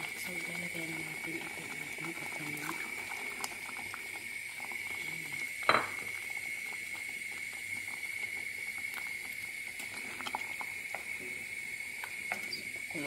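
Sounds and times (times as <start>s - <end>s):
sauce bubbling and popping: 0.0s - 13.0s.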